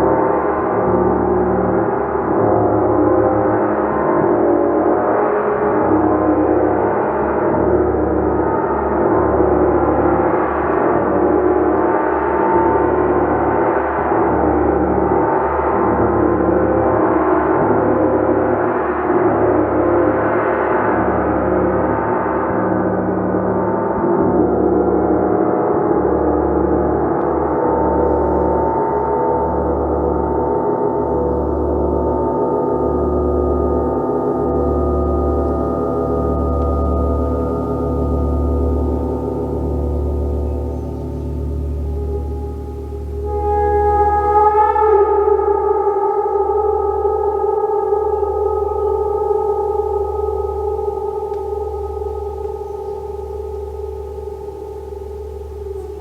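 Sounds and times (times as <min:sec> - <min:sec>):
gong sustained tones: 0:00.0 - 0:56.0.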